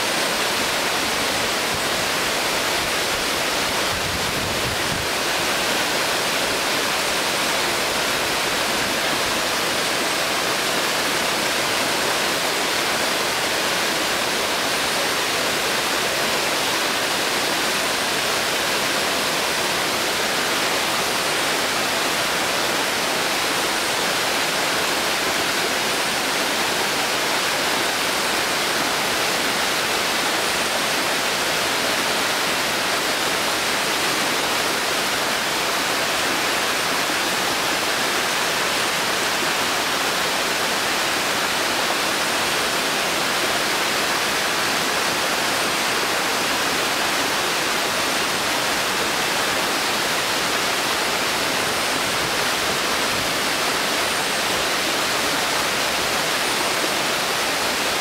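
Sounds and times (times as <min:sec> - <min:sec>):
waterfall rushing over rocks: 0:00.0 - 0:58.0.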